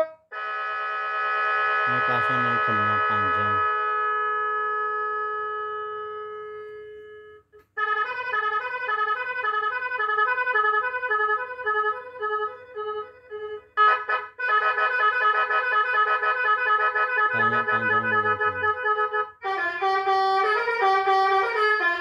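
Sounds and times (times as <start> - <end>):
bus horn telolet melody: 2.8 - 22.0.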